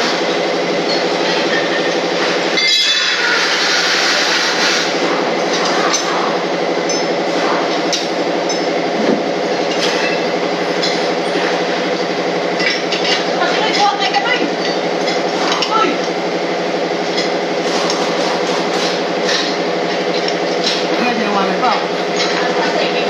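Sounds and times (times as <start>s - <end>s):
machine droning: 0.0s - 23.0s.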